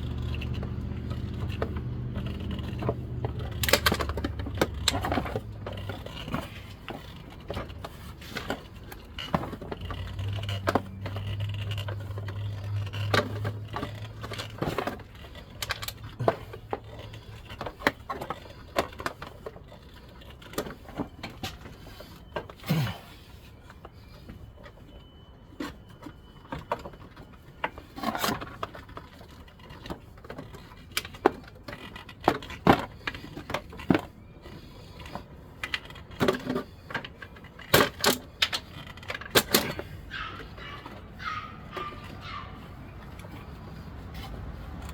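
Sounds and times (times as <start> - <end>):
hand tools clicking and scraping: 0.0 - 44.9.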